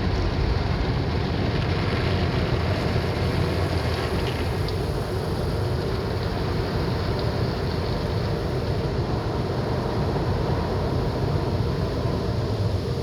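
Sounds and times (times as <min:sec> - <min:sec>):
car wash water spray and machinery: 0:00.2 - 0:13.0.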